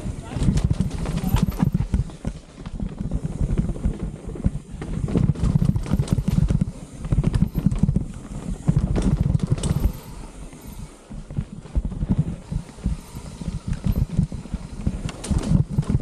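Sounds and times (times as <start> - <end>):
mountain bike rattling over dirt trail: 0.0 - 16.0.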